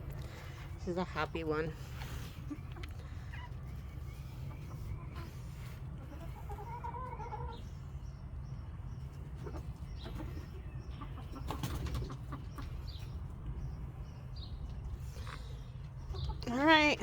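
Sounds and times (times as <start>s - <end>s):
steady low rumble: 0.0s - 11.5s, 12.1s - 17.0s
chickens clucking: 0.2s - 17.0s.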